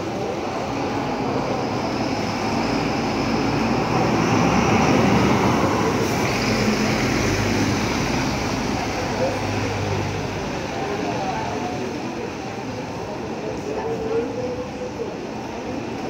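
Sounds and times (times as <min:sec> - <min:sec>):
tyre noise on wet pavement: 0:00.0 - 0:13.4
bus diesel engine passing: 0:00.0 - 0:16.0.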